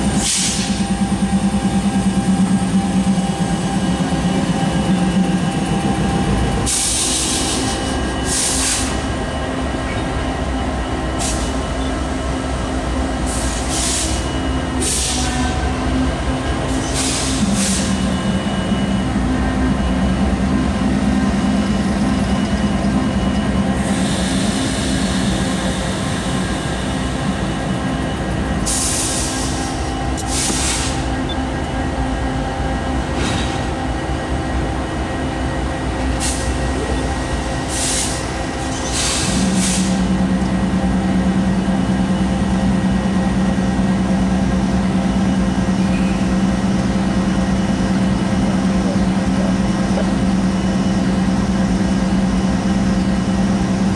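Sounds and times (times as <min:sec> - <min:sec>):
diesel locomotive engine hum: 0:00.0 - 0:53.9.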